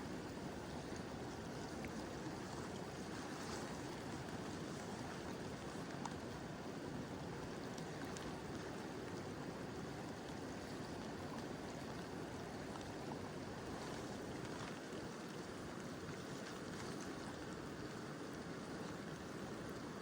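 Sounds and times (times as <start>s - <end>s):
gentle rain falling: 0.1s - 20.0s.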